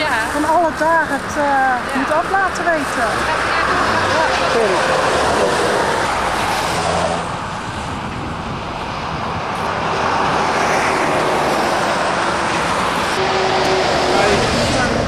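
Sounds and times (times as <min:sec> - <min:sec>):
motorway traffic passing: 0:00.0 - 0:15.0.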